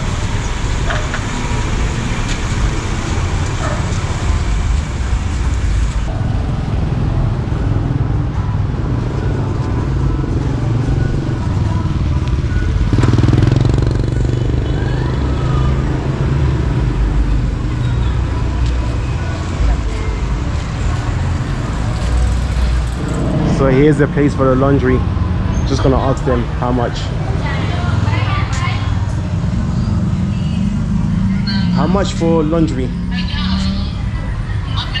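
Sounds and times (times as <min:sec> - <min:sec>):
loud vehicle passing: 0:00.0 - 0:35.0
motorbikes and cars passing: 0:00.0 - 0:35.0.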